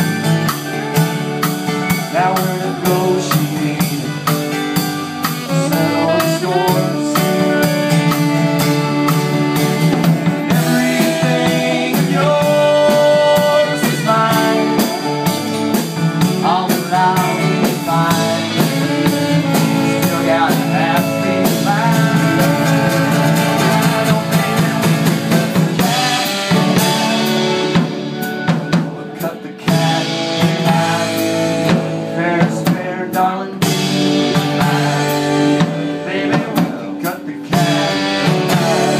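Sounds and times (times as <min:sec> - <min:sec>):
melodic lead line: 0:00.0 - 0:32.4
acoustic guitar: 0:00.0 - 0:38.9
drum kit beat: 0:00.0 - 0:38.9.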